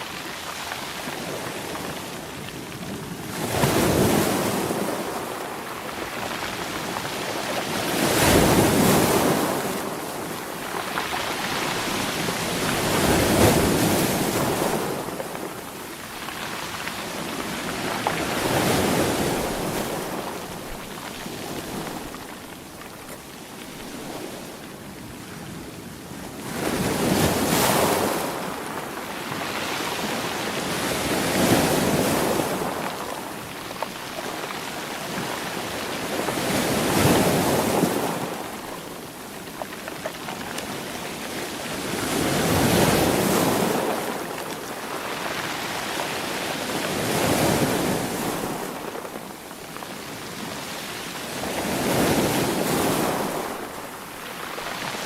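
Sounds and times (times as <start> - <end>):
sea waves breaking: 3.2 - 25.5, 26.4 - 55.0.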